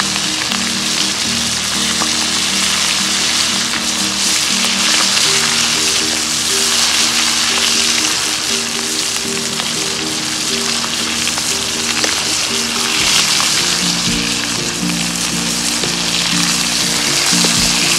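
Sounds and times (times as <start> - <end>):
background music: 0.0 - 17.9
chicken sizzling in hot oil: 0.0 - 17.9.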